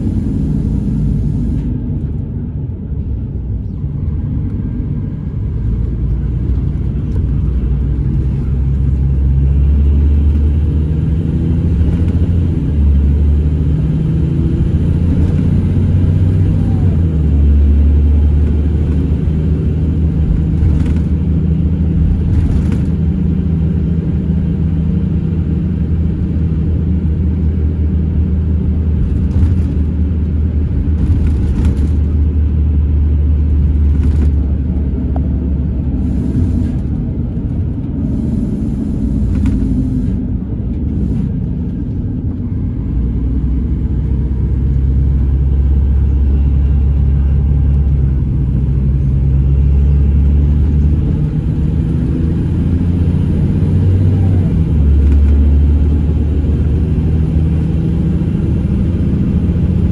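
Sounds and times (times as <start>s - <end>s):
coach engine and road rumble: 0.0s - 59.9s.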